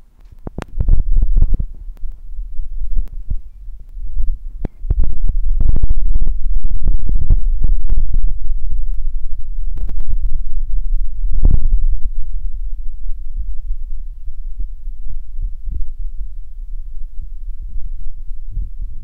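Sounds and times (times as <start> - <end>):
wind buffeting phone microphone: 0.0 - 19.0.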